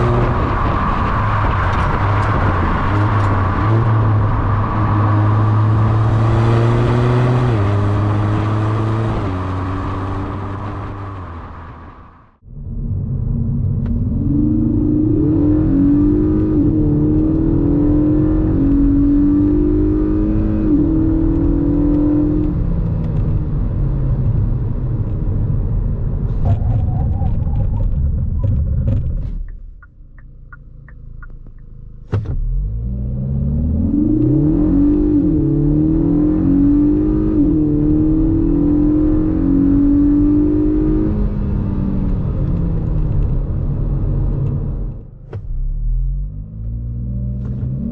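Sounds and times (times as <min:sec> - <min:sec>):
car engine accelerating hard: 0:00.0 - 0:29.5, 0:32.0 - 0:47.9.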